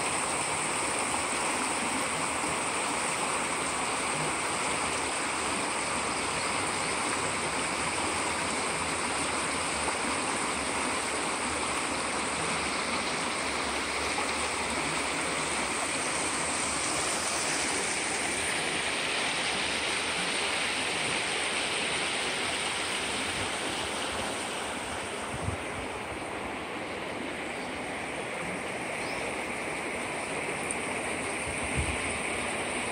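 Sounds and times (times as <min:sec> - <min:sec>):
river rushing over stones: 0:00.0 - 0:32.9.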